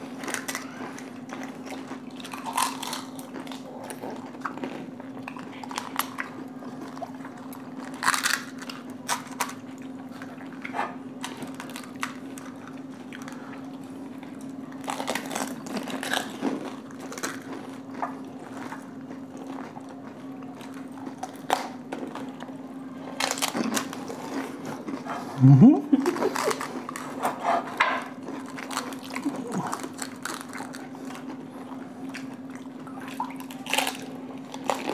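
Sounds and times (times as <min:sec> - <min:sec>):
crisp shells crackling in mouth: 0:00.0 - 0:34.9
steady low hum: 0:00.0 - 0:34.9.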